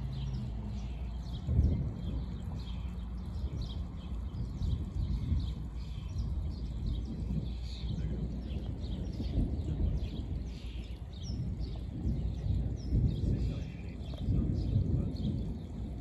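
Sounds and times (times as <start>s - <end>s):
small birds chirping: 0.0s - 16.0s
wind rumbling on microphone: 0.0s - 16.0s.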